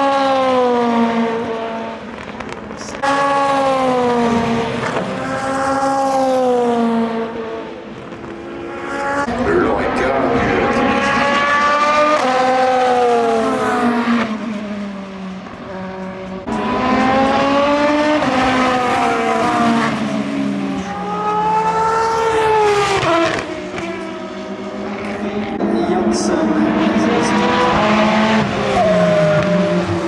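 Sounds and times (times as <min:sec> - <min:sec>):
race cars passing at speed: 0:00.0 - 0:30.0.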